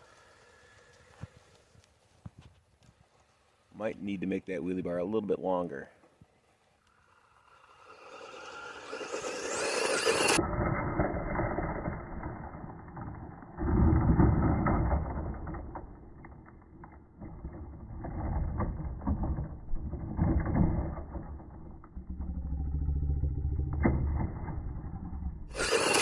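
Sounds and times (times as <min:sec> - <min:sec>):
radio-controlled truck driving on dirt: 0:00.0 - 0:03.4, 0:06.6 - 0:26.0.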